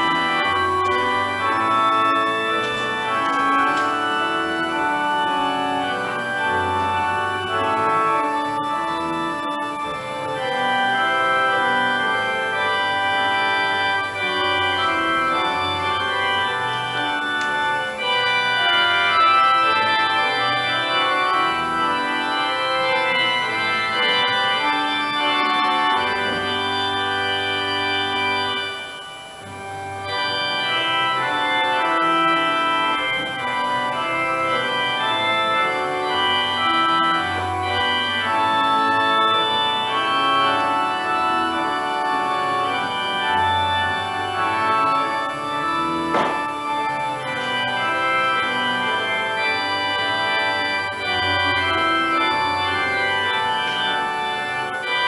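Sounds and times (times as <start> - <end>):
organ playing a hymn: 0.0 - 55.0.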